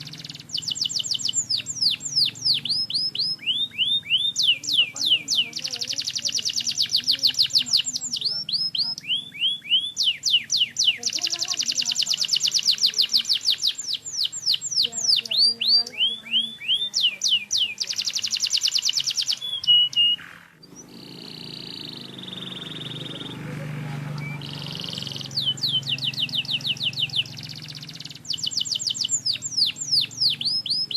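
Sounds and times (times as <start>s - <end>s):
canary singing: 0.0s - 30.9s.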